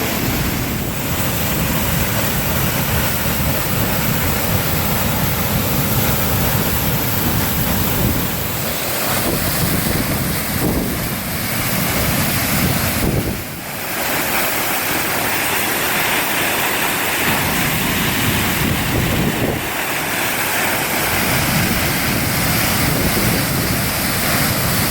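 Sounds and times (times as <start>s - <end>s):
wind buffeting microphone: 0.0s - 15.0s, 17.2s - 24.9s
rush of falling water: 0.0s - 24.9s.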